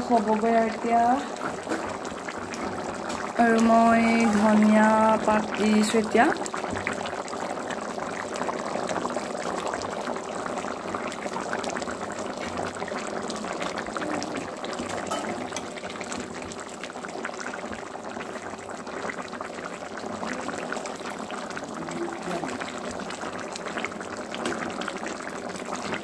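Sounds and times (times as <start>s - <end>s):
curry bubbling in a pot: 0.0s - 26.0s.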